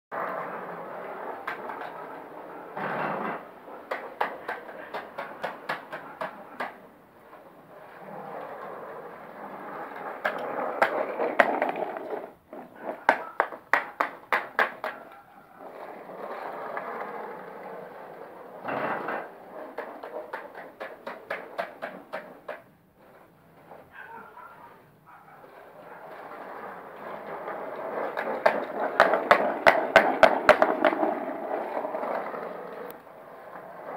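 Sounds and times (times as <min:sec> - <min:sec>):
skateboard wheels rolling on concrete: 0:00.1 - 0:33.9
skateboard clicks: 0:00.2 - 0:23.9, 0:24.6 - 0:33.9.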